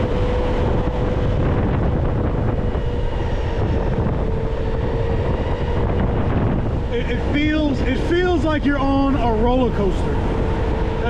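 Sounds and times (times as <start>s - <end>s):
electric motor whine: 0.0s - 11.0s
wind rushing over microphone: 0.0s - 11.0s.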